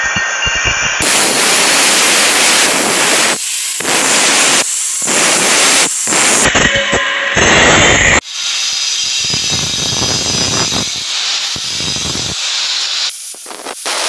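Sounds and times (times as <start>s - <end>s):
angle grinder cutting steel pipe: 0.0s - 14.0s.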